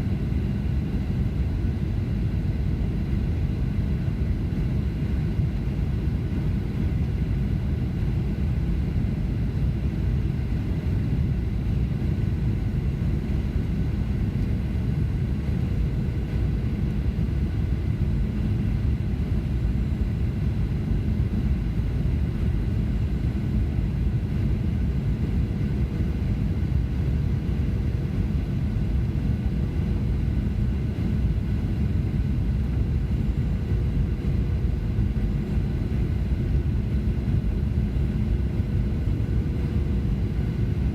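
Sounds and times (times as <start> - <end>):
aircraft cabin engine rumble: 0.0 - 40.9.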